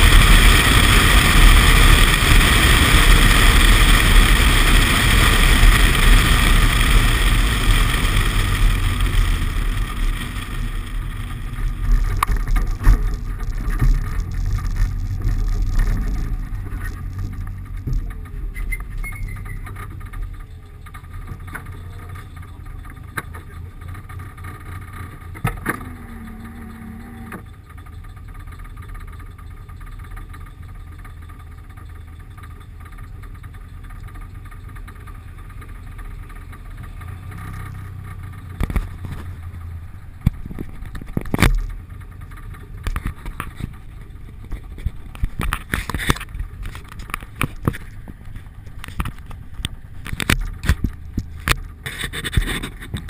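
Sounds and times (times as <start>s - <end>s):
muffled engine and road rumble: 0.0s - 53.0s.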